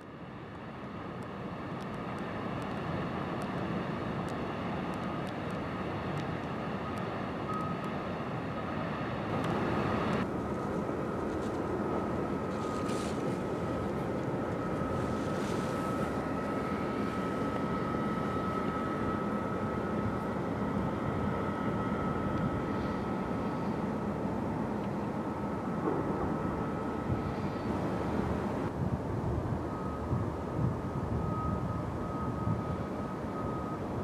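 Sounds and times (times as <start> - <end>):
faint high whine: 0.0 - 28.7, 29.4 - 34.0
low engine drone: 0.0 - 34.0.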